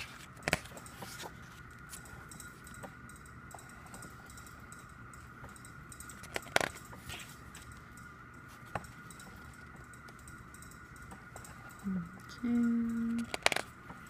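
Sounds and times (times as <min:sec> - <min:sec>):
faint high background tone: 0:00.0 - 0:14.0.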